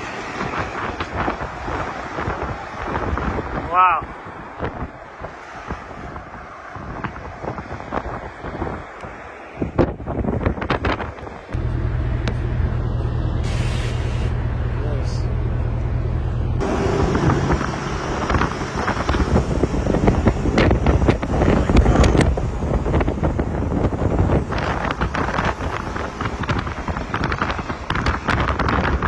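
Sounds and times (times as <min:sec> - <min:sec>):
wind buffeting microphone: 0:00.0 - 0:11.6, 0:16.6 - 0:29.0
low road rumble: 0:00.0 - 0:29.0.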